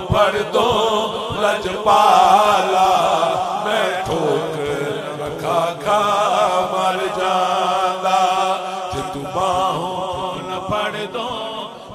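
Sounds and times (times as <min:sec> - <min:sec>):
man singing devotional song: 0:00.0 - 0:11.9.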